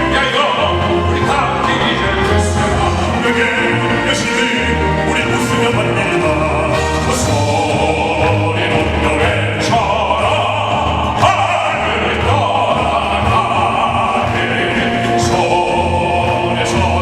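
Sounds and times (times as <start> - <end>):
musical accompaniment with bass line: 0.0 - 17.0
operatic singing with vibrato: 0.0 - 17.0.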